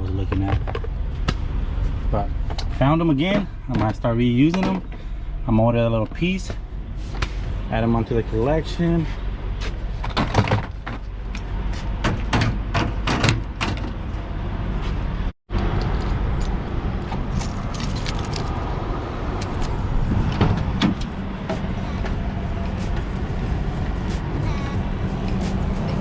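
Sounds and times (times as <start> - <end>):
vehicle road noise rumble: 0.0 - 26.0.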